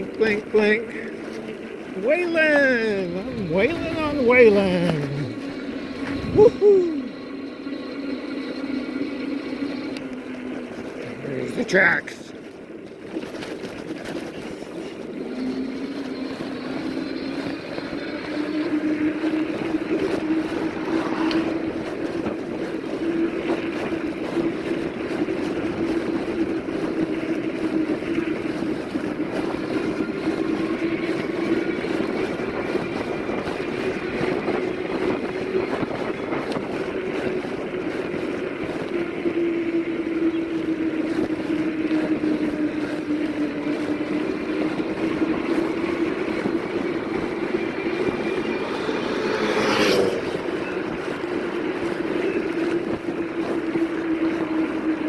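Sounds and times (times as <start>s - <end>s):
electric bike drone: 0.0s - 55.0s
wind noise on microphone: 1.6s - 8.8s, 12.7s - 55.0s.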